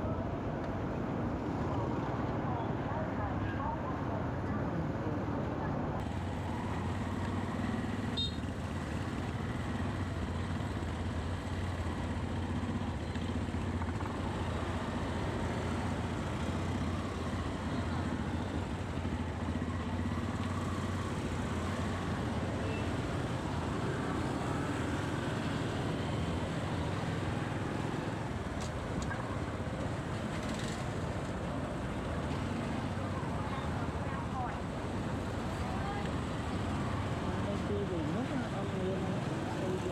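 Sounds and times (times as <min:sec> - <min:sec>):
city traffic: 0:00.0 - 0:39.9
motorcycle engine hum: 0:06.0 - 0:39.9.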